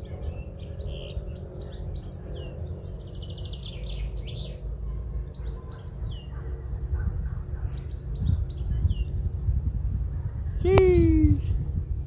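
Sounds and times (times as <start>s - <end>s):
songbirds chirping and singing: 0.0s - 9.9s
steady low rumble: 0.0s - 12.0s.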